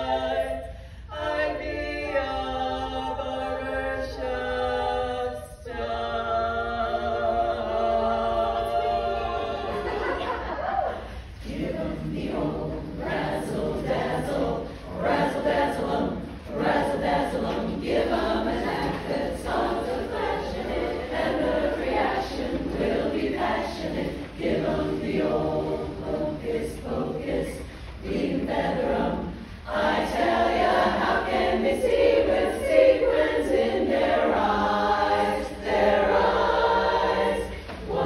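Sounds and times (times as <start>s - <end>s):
women's chorus singing: 0.0s - 38.0s.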